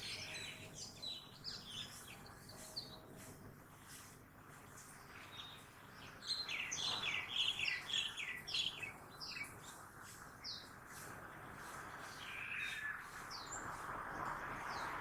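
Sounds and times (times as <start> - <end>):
faint city traffic rumble: 0.0 - 15.0.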